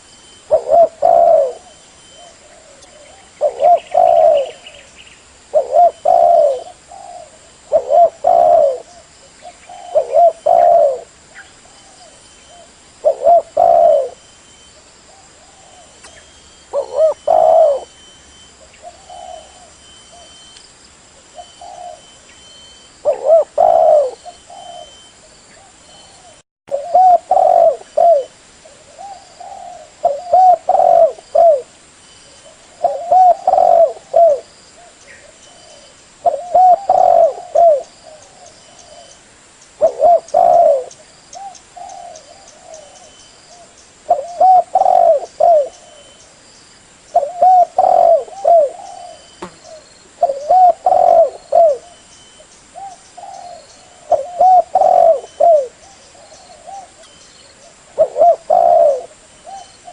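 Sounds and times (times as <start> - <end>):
dove cooing: 0.0 - 20.4, 21.2 - 22.2, 23.0 - 39.2, 39.8 - 46.3, 47.1 - 52.1, 52.8 - 59.9.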